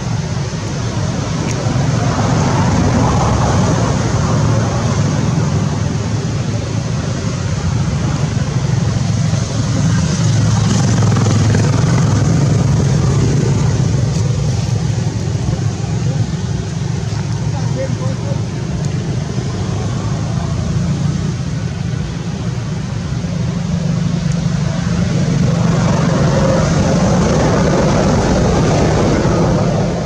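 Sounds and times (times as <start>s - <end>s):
motor vehicle rumble: 0.0s - 30.0s.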